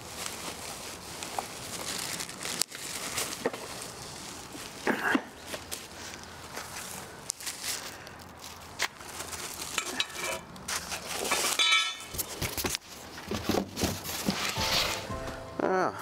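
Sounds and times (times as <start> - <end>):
plastic packaging crinkling: 0.0 - 15.2.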